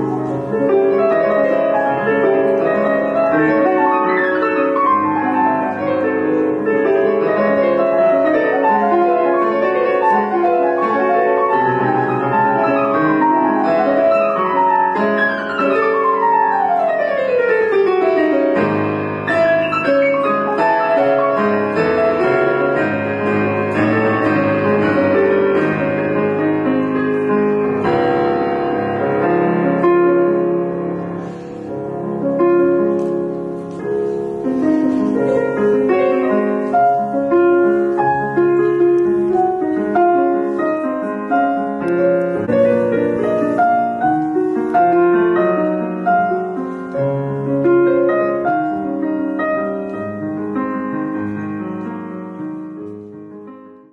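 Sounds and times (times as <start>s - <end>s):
fast digital piano piece: 0.0s - 53.9s.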